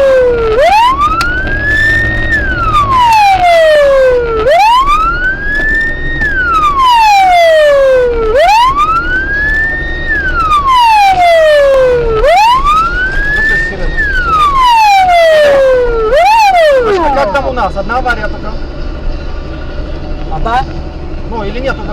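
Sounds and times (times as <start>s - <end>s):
emergency siren wailing: 0.0s - 17.7s
low rumble: 0.0s - 17.9s.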